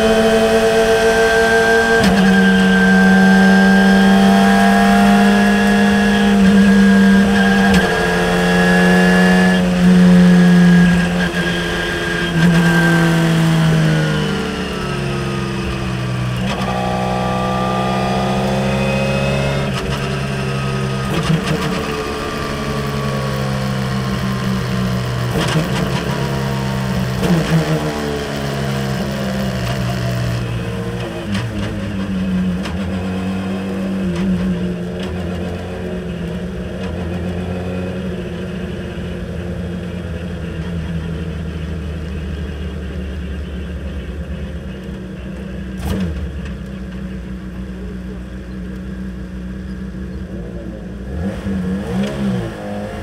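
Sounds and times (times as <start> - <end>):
car engine downshifting: 0.0 - 53.0.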